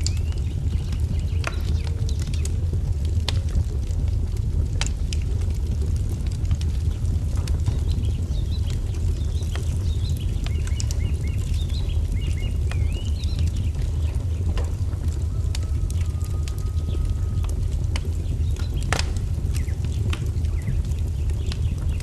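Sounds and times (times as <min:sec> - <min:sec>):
small birds chirping: 0:00.0 - 0:02.7, 0:06.5 - 0:22.0
wood fire crackling: 0:00.0 - 0:22.0.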